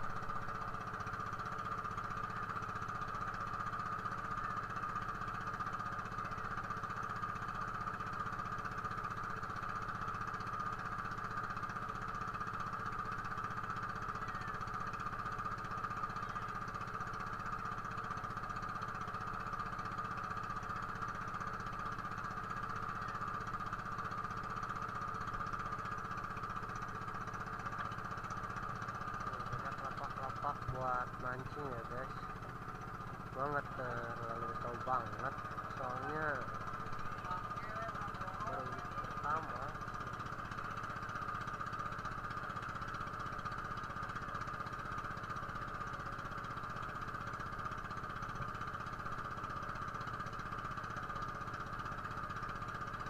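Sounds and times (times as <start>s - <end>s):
small boat engine droning: 0.0s - 53.0s.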